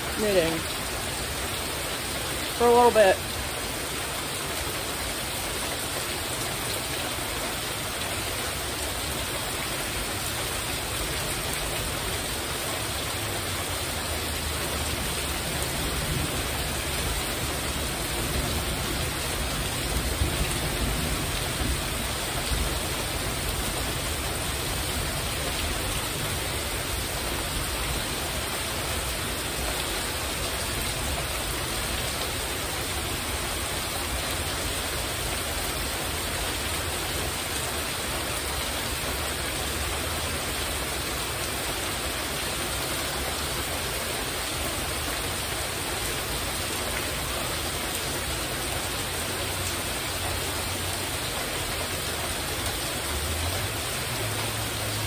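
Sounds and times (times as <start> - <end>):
heavy rain on metal roof: 0.0 - 55.0.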